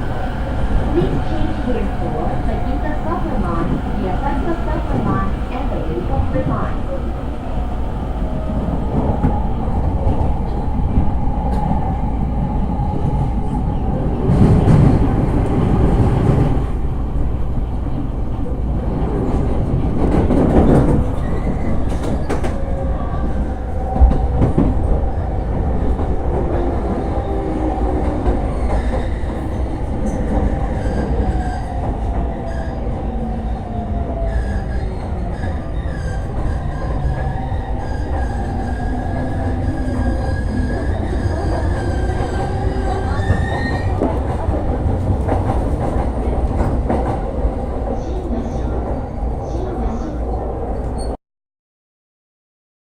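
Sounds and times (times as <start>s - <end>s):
train rattling: 0.0s - 51.1s
train wheel-on-rail rumble: 0.0s - 51.2s.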